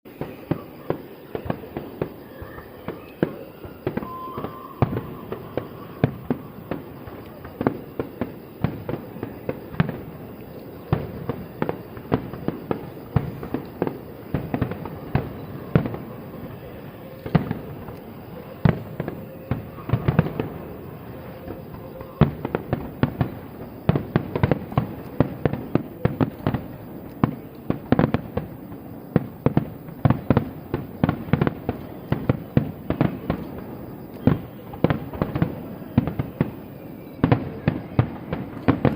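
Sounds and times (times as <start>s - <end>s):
fireworks bursting with sharp bangs: 0.1s - 38.9s.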